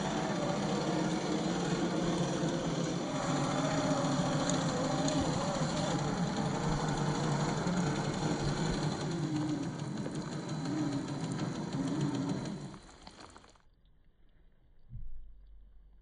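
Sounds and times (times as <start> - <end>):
toy car motor whining: 0.0 - 13.5.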